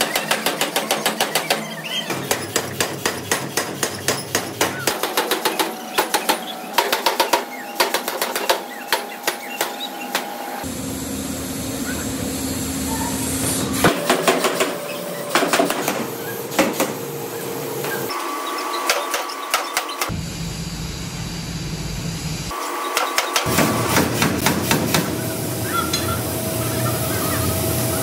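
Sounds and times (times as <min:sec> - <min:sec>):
machine hum: 0:00.0 - 0:22.8, 0:23.5 - 0:28.0.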